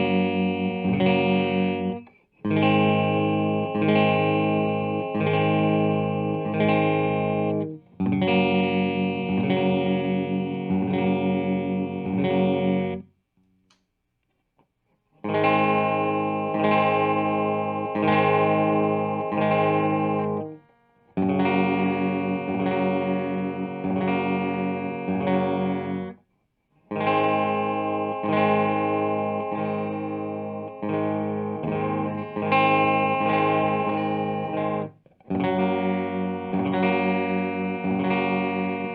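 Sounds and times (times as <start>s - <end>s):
overdriven electric guitar chords: 0.0s - 13.1s, 15.2s - 26.2s, 26.8s - 38.9s.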